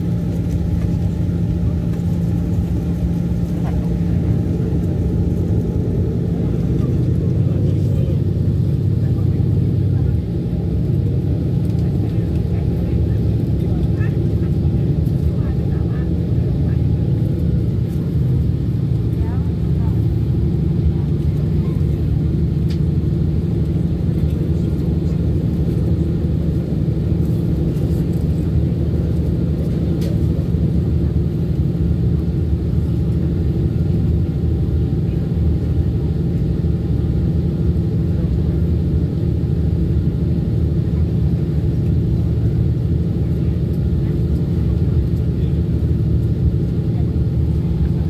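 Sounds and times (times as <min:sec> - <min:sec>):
railcar engine and wheels rumbling: 0:00.0 - 0:48.0.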